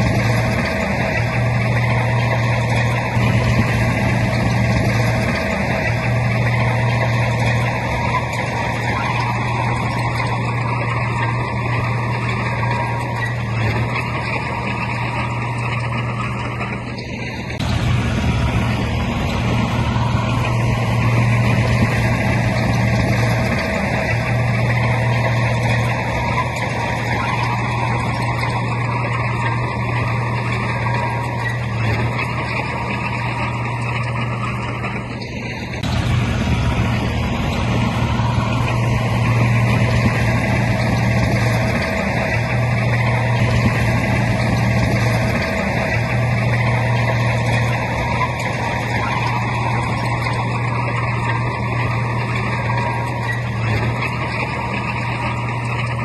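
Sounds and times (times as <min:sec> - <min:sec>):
diesel earthmoving machinery droning: 0:00.0 - 0:56.0.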